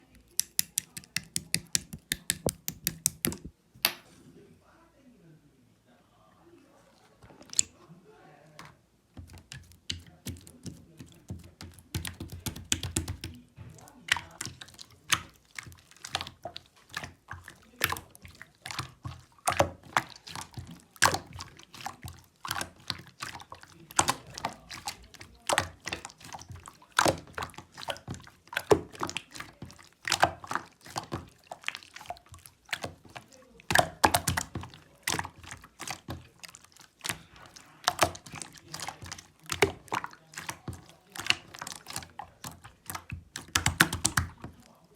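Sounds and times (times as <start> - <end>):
slime squishing with sticky pops: 0.0 - 3.6, 9.2 - 44.9.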